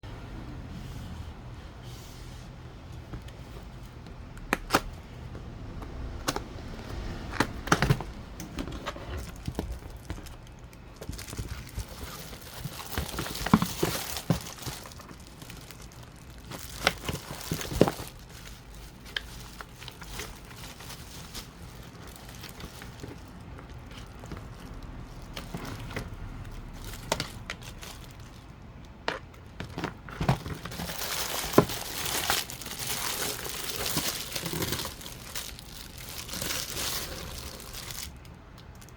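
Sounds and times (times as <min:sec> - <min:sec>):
plastic packaging crinkling: 0:06.0 - 0:38.9.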